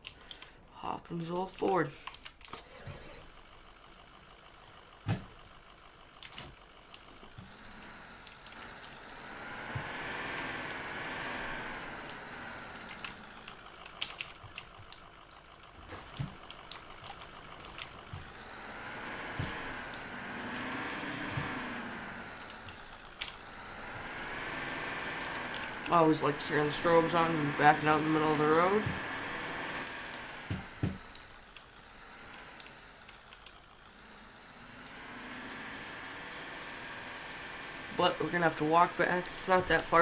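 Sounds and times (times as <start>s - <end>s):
truck engine revving: 2.5s - 40.0s.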